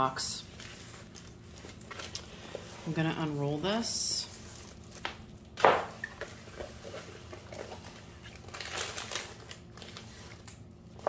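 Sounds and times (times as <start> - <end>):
canvas crinkling rustle: 0.4 - 5.2, 6.2 - 11.0.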